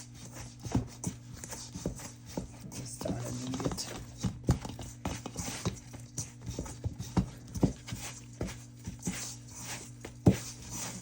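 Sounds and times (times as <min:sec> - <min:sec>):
hands kneading wet dough: 0:00.0 - 0:11.0
low electrical hum: 0:00.0 - 0:11.0.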